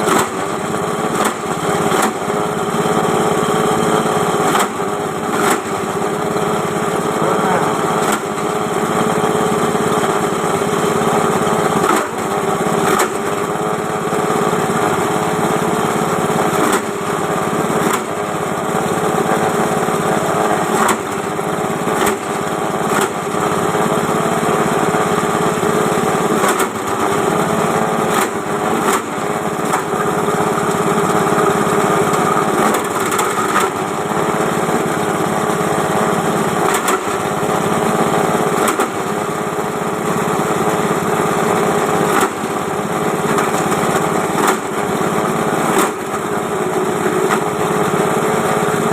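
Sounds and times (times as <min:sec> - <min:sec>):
small engine machine running: 0:00.0 - 0:48.9.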